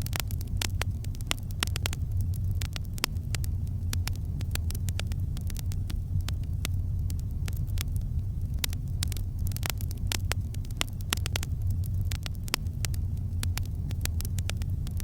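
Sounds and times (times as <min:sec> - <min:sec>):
low fire rumble: 0:00.0 - 0:15.0
wood crackling and popping: 0:00.0 - 0:15.0.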